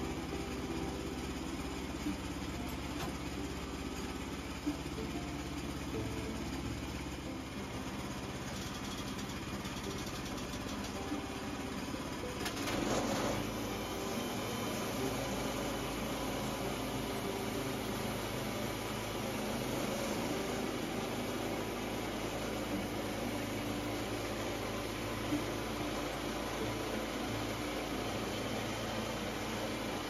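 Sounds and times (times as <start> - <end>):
small engine idling: 0.0 - 30.0.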